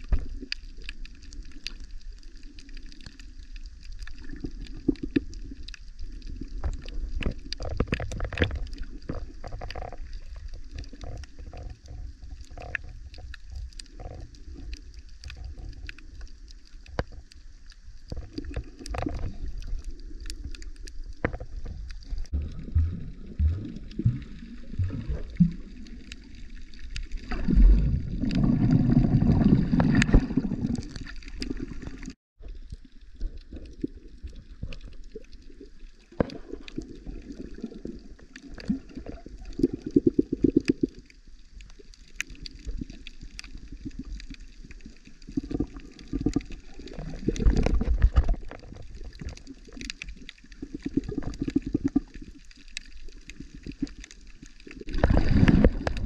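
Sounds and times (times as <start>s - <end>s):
underwater rushing water: 0.0s - 56.0s.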